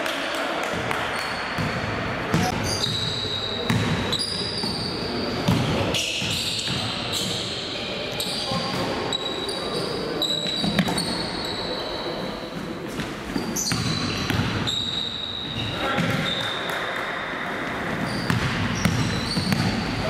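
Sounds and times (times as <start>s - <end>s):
sneakers squeaking: 1.1s - 20.0s.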